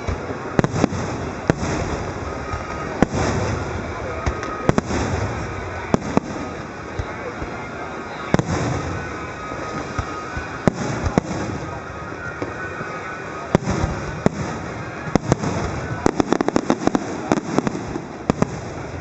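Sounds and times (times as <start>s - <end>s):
crackling fireworks bangs: 0.0s - 19.0s
fireworks bursting with bangs: 0.0s - 19.0s.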